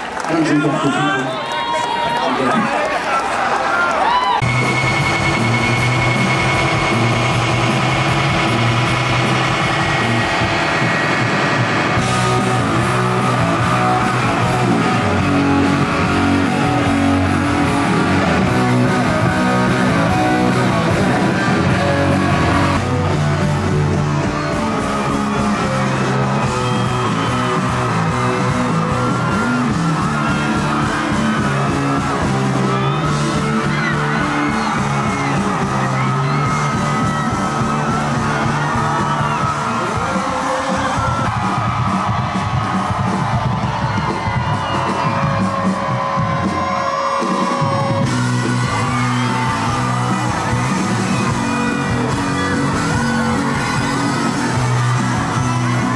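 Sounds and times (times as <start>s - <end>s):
guitar: 4.2s - 55.9s.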